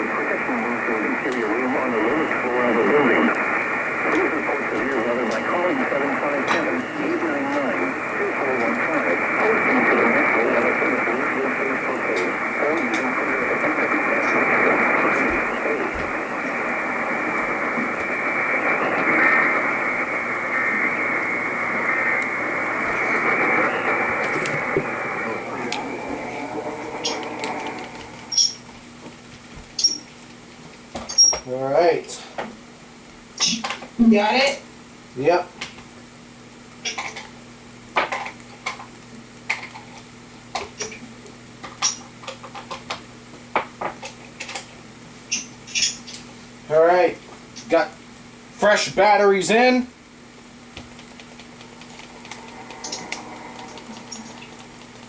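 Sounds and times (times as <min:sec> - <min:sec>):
faint electrical hum: 0:00.0 - 0:55.0
muffled static hiss: 0:00.0 - 0:55.0.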